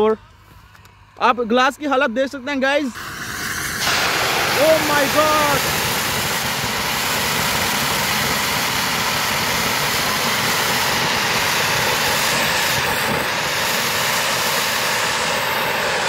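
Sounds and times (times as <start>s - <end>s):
firework spraying sparks with rushing hiss: 2.6s - 16.0s.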